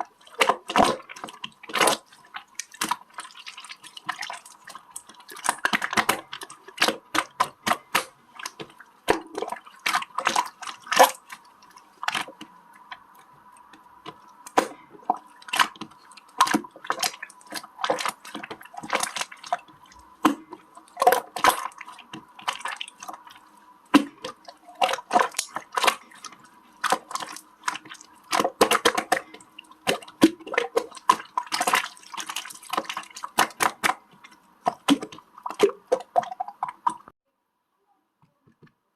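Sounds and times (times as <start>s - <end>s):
slime squishing with sticky pops: 0.0s - 37.1s
faint steady hum: 0.0s - 38.5s.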